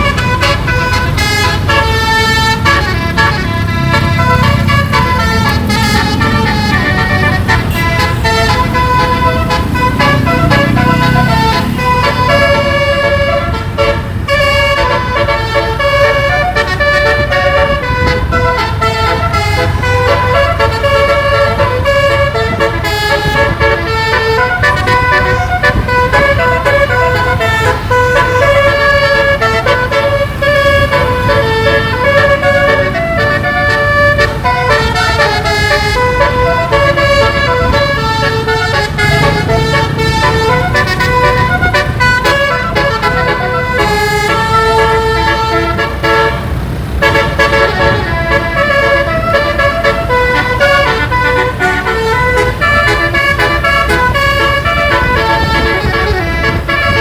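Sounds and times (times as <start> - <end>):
melodic bus horn tune: 0.0 - 57.0.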